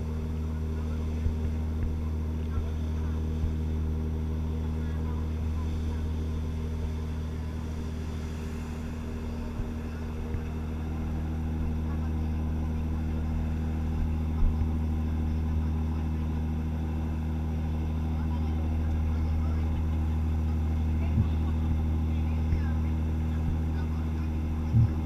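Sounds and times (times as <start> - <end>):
ship engines droning: 0.0 - 25.0
water rushing past hull: 0.0 - 25.0.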